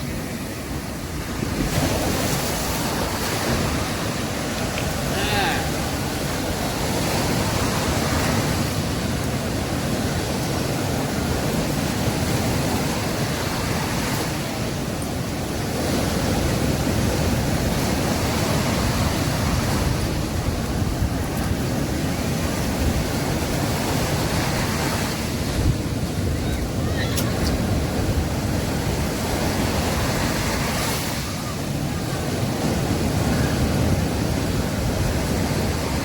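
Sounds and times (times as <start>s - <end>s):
sea waves washing onto beach: 0.0s - 36.0s.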